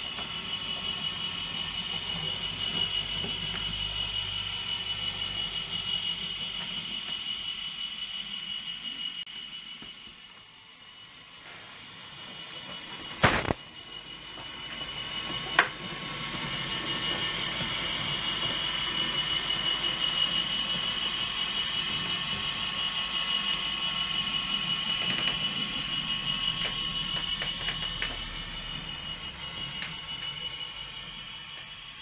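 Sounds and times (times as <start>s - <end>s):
model train whine: 0.0s - 32.0s.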